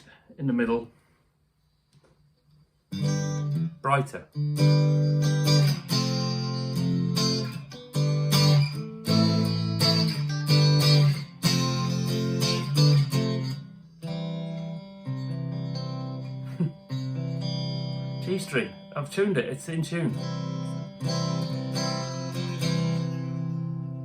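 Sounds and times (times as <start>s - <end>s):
clean electric guitar strumming chords: 2.9s - 24.0s.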